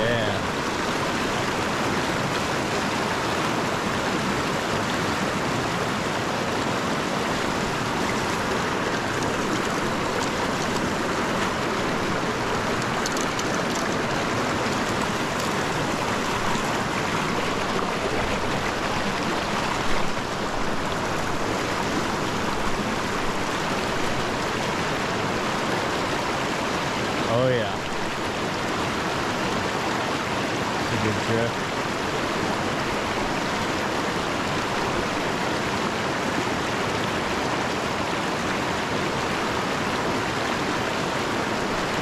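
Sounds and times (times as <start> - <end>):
river water flowing over rocks: 0.0 - 42.0.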